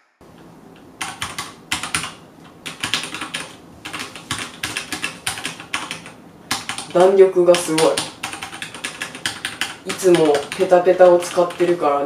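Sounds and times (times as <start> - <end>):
mechanical keyboard typing: 1.0 - 12.0.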